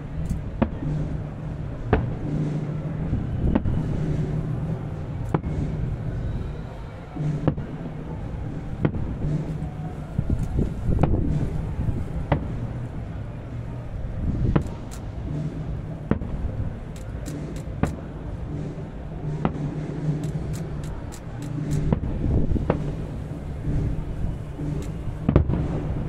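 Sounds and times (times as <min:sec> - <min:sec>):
distant fireworks bursting: 0:00.0 - 0:26.0
fireworks crackling: 0:00.0 - 0:26.0
low rumble: 0:00.0 - 0:26.0.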